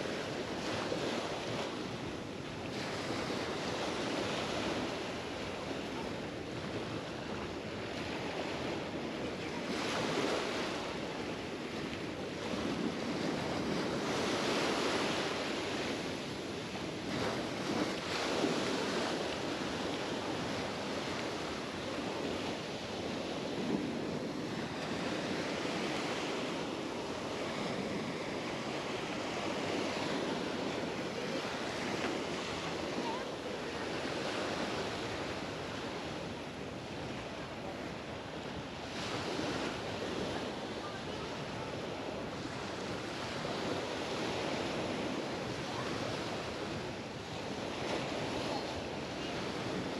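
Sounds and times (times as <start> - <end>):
surf breaking on beach: 0.0 - 49.9
wind on microphone: 0.0 - 49.9.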